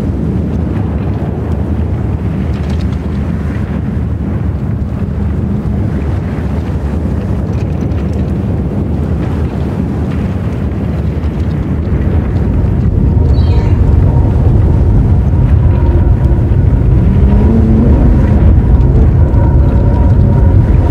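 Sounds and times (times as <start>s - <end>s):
loud low rumble: 0.0s - 20.9s.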